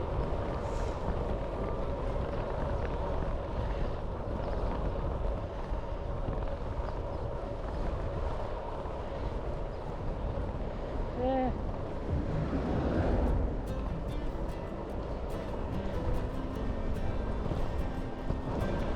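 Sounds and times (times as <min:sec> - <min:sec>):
bicycle tyres humming on tarmac: 0:00.0 - 0:18.9
wind on camera microphone: 0:00.0 - 0:18.9.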